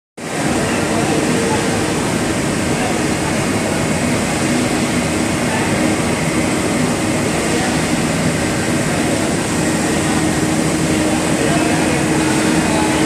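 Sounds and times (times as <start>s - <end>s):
loud machinery noise: 0.2s - 13.0s.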